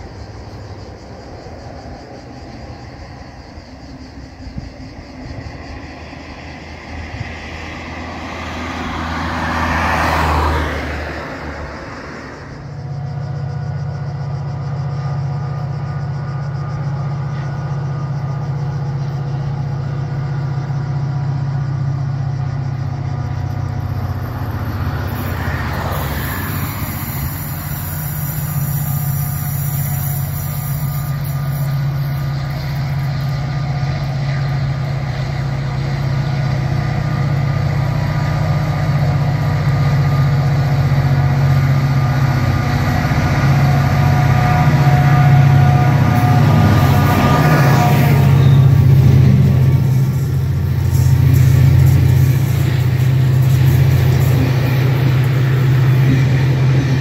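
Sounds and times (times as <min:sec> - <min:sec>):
diesel train engine humming: 0:00.0 - 0:57.0.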